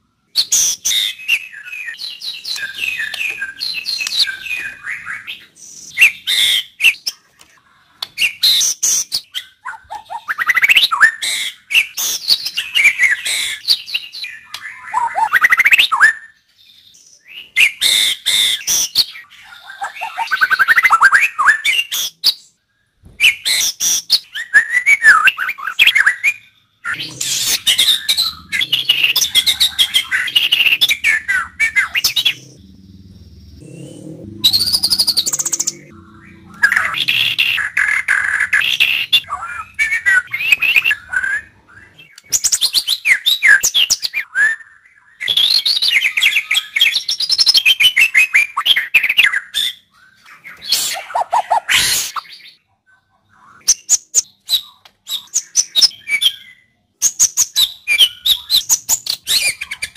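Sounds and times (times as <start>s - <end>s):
bird singing whistles and chatters: 0.4s - 7.4s, 8.0s - 52.6s, 53.4s - 59.9s.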